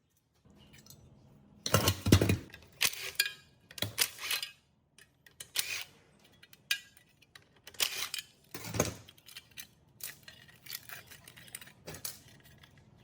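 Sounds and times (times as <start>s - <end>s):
metal tools clinking and scraping: 1.7s - 13.0s.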